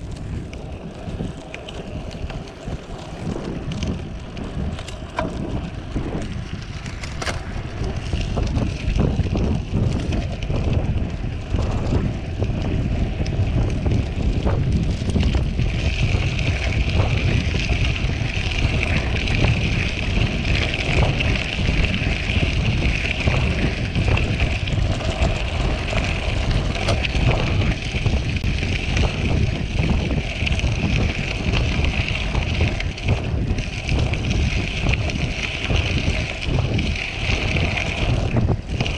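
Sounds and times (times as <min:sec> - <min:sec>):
bike tyres rolling on gravel: 0:00.0 - 0:38.9
stones and bike rattling: 0:00.0 - 0:38.9
wind buffeting microphone: 0:00.0 - 0:38.9.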